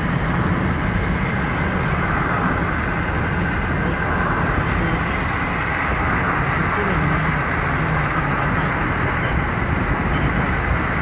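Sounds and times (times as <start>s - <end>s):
car road noise from inside: 0.0s - 11.0s.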